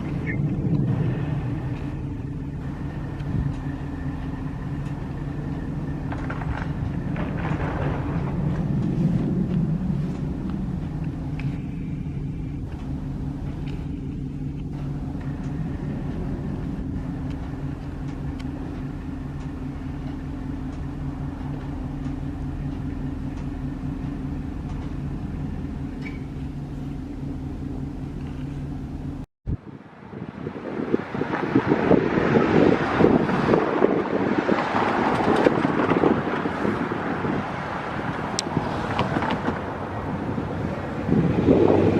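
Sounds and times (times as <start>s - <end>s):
diesel locomotive engine running: 0.0s - 41.9s.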